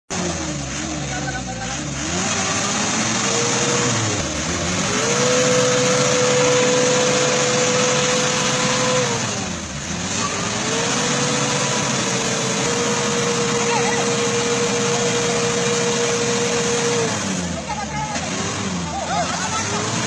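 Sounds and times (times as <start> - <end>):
diesel engine revving under load: 0.1 - 20.0
noisy wash: 0.2 - 20.0.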